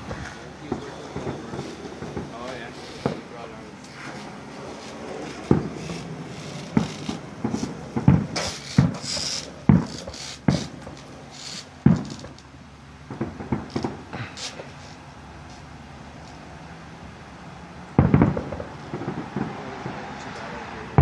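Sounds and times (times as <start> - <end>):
fireworks booming: 0.0 - 15.0, 17.9 - 21.0
fireworks crackling pops: 0.0 - 16.5, 17.9 - 21.0.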